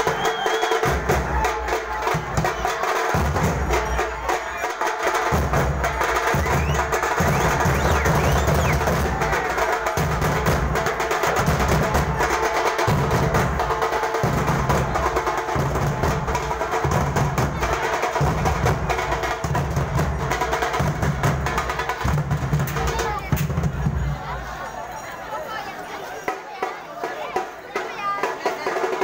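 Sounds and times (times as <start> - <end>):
deep drum beat: 0.0 - 4.4, 5.2 - 24.3.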